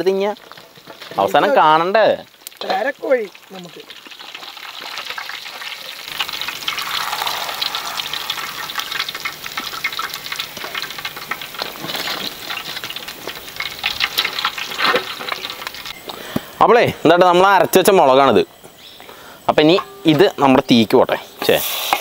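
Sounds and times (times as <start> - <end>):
chicken deep-frying in oil: 0.0 - 16.3, 20.4 - 22.0.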